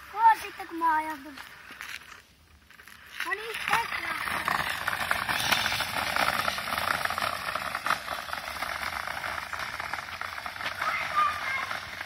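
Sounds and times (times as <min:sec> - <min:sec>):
gravel crunching: 0:00.0 - 0:12.0.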